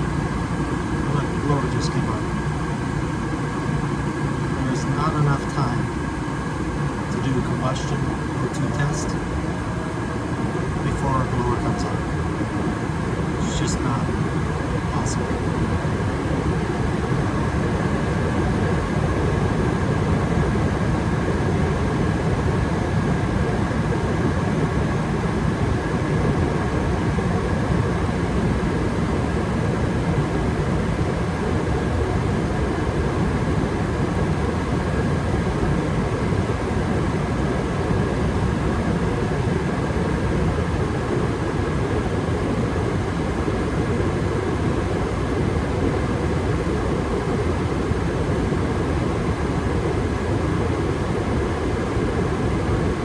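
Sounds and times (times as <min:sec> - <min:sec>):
faint steady whine: 0:00.0 - 0:53.0.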